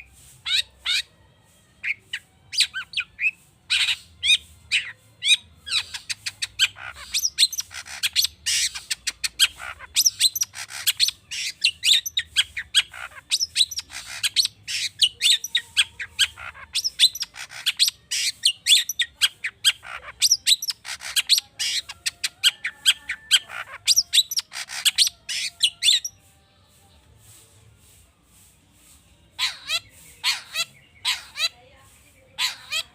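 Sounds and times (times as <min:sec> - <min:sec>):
bird singing chirps and trills: 0:01.8 - 0:26.3, 0:29.3 - 0:32.9.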